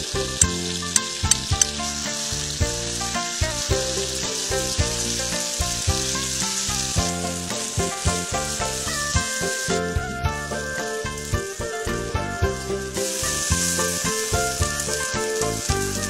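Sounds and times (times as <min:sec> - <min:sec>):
clams sizzling on hot stone: 0:00.0 - 0:16.0.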